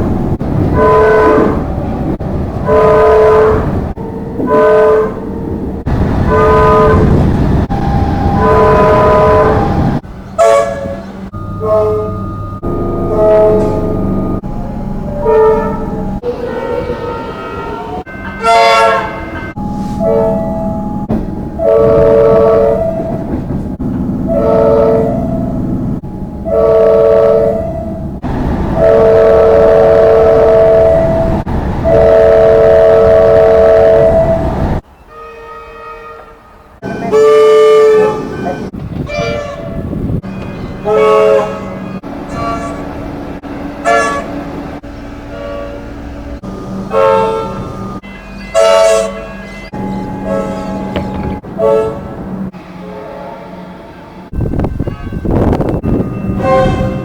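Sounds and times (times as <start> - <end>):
train rumble: 0.0 - 57.0
train horn blasts: 0.3 - 23.5, 24.2 - 25.6, 26.4 - 57.0.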